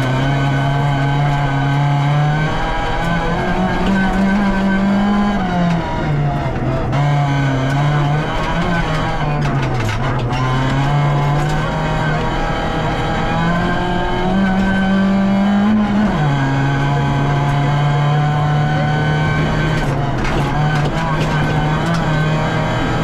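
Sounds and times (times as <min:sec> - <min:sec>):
rally car engine from cabin: 0:00.0 - 0:23.0.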